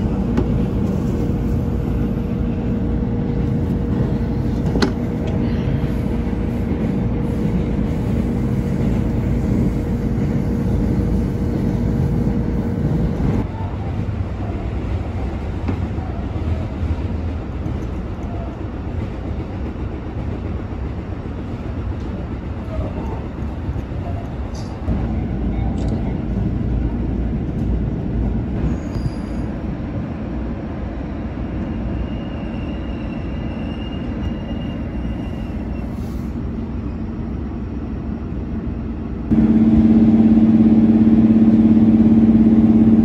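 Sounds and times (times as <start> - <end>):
diesel train rumble: 0.0 - 43.0
train engine hum: 0.0 - 43.0.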